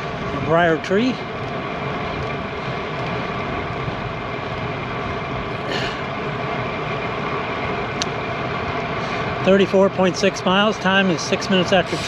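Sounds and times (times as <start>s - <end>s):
bicycle tyre noise: 0.0s - 12.0s
faint steady whine: 0.0s - 12.0s.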